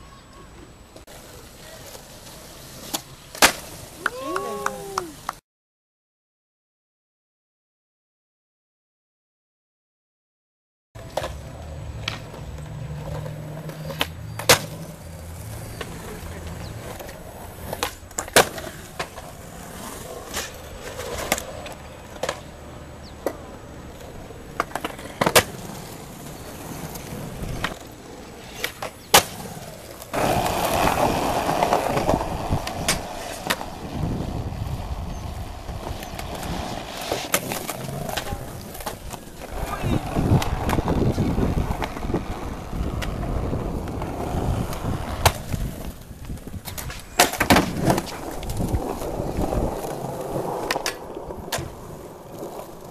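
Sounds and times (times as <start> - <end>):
skateboard wheels rolling: 0.0 - 5.4, 11.0 - 52.9
skateboard decks clacking: 0.3 - 5.4, 11.0 - 52.9.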